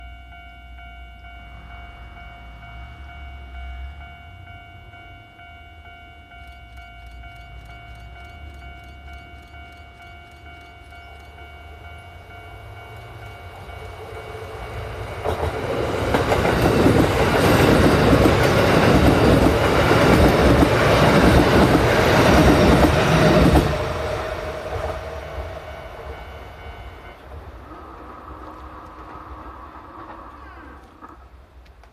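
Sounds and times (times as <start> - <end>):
level crossing alarm ringing: 0.0 - 27.3
train rumble and wheel clatter: 0.0 - 31.9.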